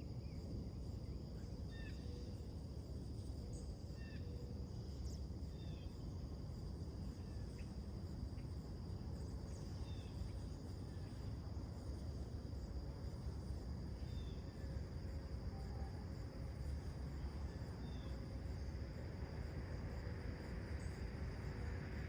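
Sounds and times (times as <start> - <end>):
high drone of insects: 0.0 - 22.0.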